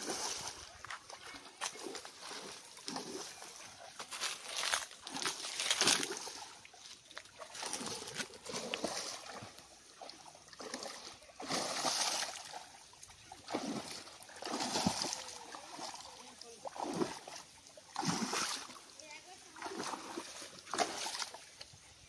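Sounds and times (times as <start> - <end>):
water splashing around waders: 0.0 - 22.0.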